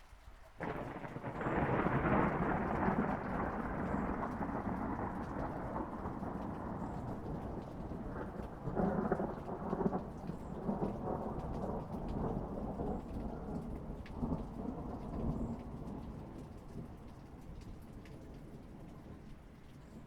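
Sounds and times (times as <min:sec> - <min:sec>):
steady rain: 0:00.0 - 0:20.0
thunder rolling: 0:00.6 - 0:19.5.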